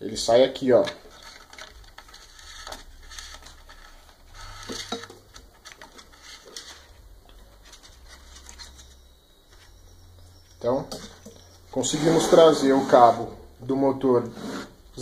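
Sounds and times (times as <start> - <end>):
cable rustling and scraping: 0.2 - 15.0.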